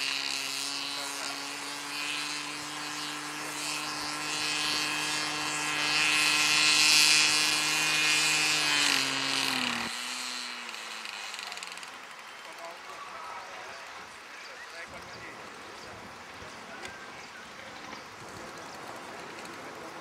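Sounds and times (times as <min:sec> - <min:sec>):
model plane engine running: 0:00.0 - 0:20.0.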